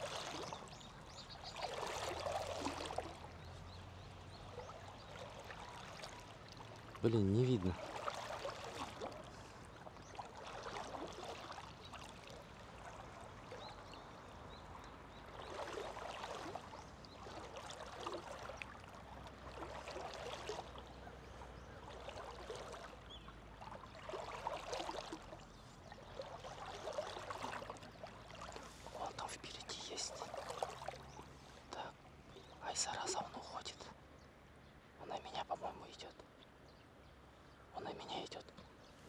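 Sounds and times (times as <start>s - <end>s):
shallow water sloshing: 0.0s - 33.8s.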